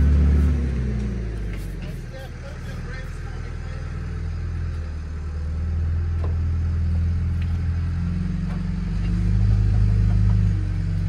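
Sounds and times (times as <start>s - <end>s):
backhoe engine rumbling: 0.0s - 11.0s.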